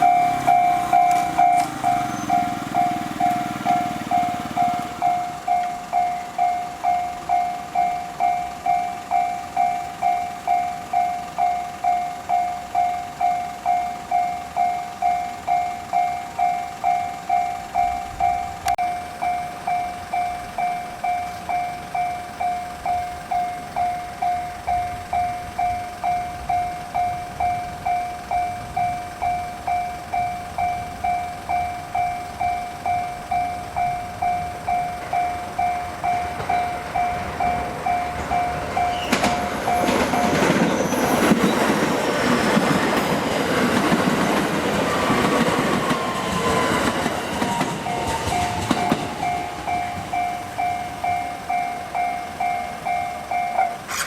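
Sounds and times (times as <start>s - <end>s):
level crossing warning bell: 0.0s - 54.0s
low rumble of train: 0.0s - 54.0s.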